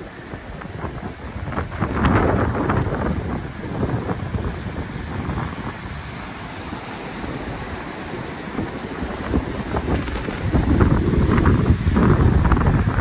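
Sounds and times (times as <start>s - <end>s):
sea surf washing over rock: 0.0s - 13.0s
wind buffeting microphone: 0.0s - 13.0s.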